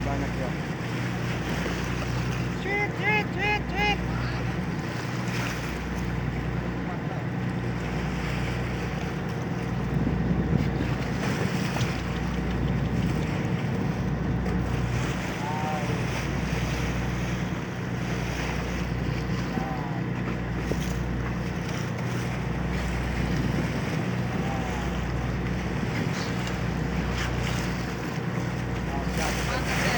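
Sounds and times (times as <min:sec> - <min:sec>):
boat engine humming: 0:00.0 - 0:29.9
water splashing against hull: 0:00.0 - 0:29.9
wind buffeting microphone: 0:04.1 - 0:19.4, 0:20.0 - 0:29.9.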